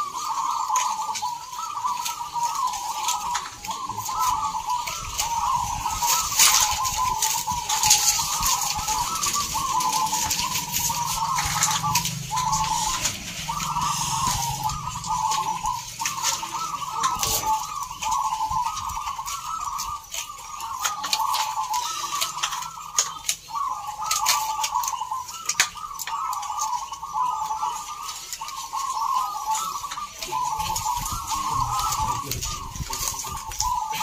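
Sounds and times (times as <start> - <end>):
doves cooing: 0.0 - 34.0.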